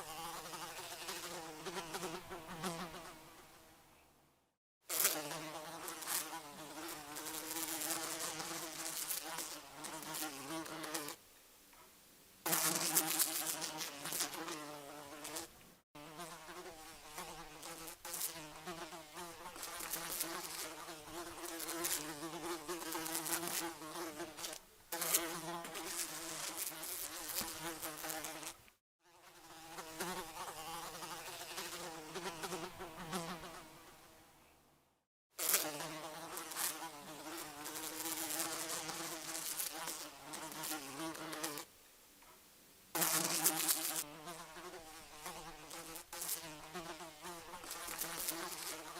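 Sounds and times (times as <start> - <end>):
fly buzzing: 0.0 - 3.6, 4.9 - 11.2, 12.5 - 34.0, 35.4 - 41.7, 43.0 - 48.9.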